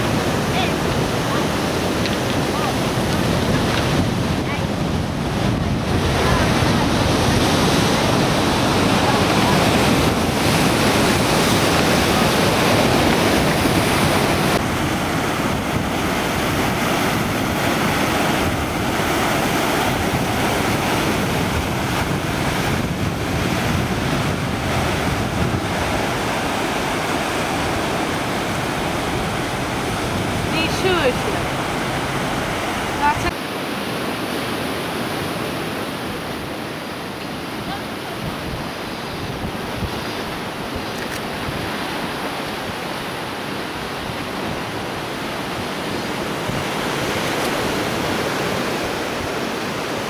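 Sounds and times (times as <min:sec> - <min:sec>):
waves breaking over rocks: 0:00.0 - 0:50.0
wind on microphone: 0:00.0 - 0:50.0.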